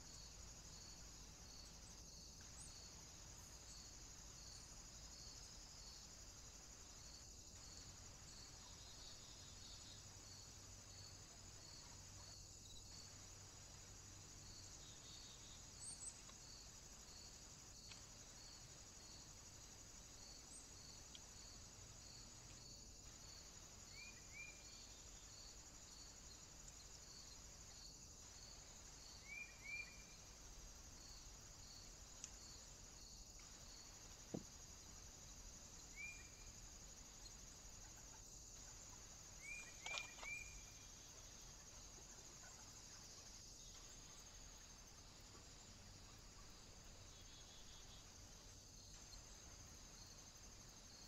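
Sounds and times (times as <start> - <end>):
insect chirp: 0.0 - 51.0
insect trill: 0.0 - 51.0.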